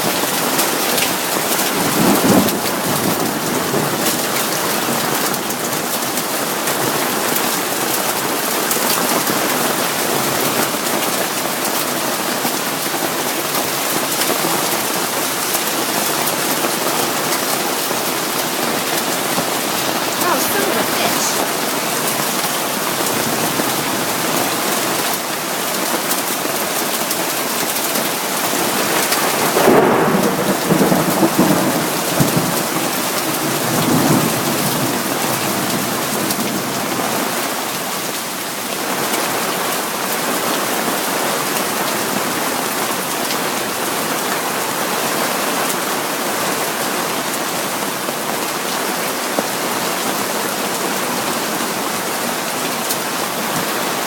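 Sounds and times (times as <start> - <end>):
hail and rain falling hard: 0.0 - 54.0.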